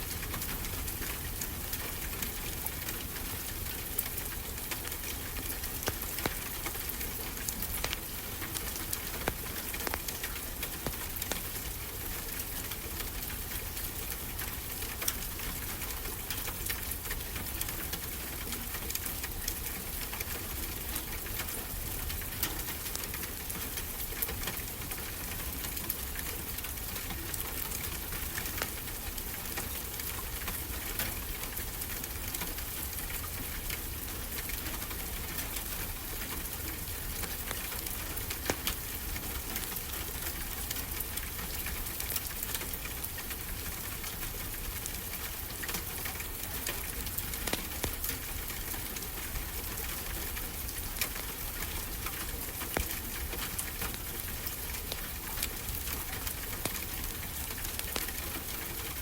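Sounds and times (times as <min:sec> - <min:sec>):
wood fire crackling and popping: 0:00.1 - 0:20.3, 0:21.1 - 0:59.0.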